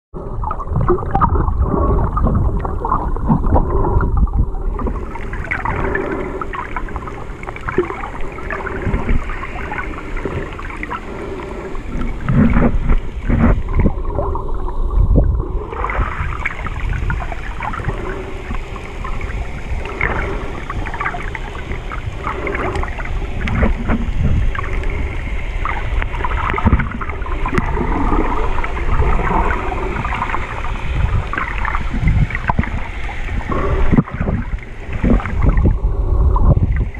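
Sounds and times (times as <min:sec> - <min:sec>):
water rushing and gurgling underwater: 0:00.1 - 0:36.9.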